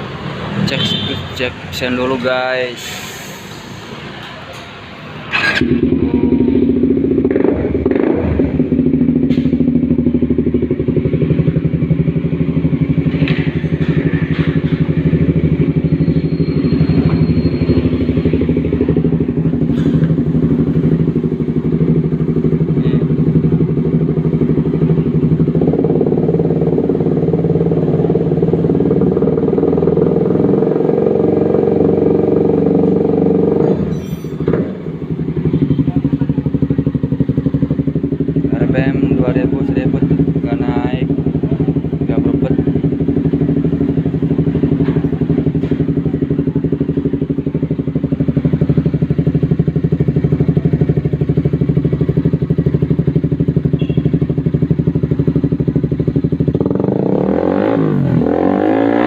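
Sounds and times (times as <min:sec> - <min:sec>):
motorcycle engine idling: 0:01.7 - 0:57.9.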